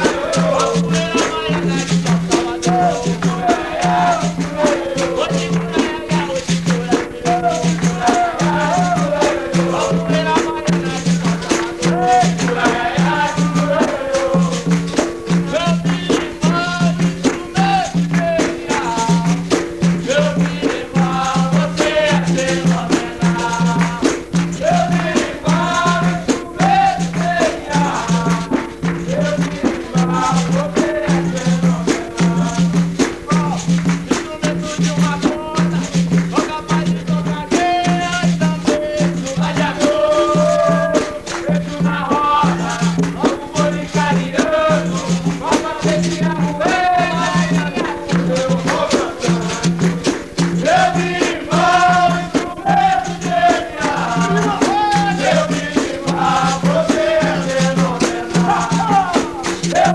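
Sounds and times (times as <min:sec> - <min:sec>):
berimbau rhythm: 0:00.0 - 0:59.9
person singing: 0:00.0 - 0:59.9
shaken rattles: 0:00.0 - 0:59.9.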